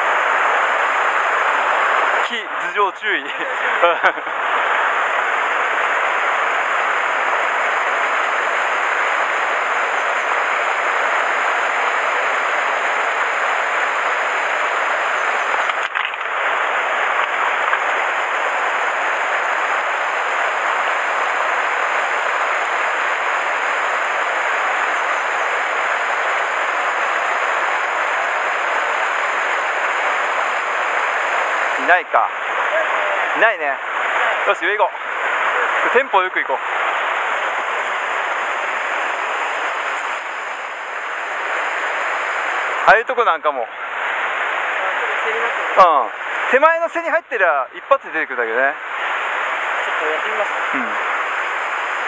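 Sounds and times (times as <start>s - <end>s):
stream rushing over rocks: 3.3s - 42.8s, 48.7s - 52.0s.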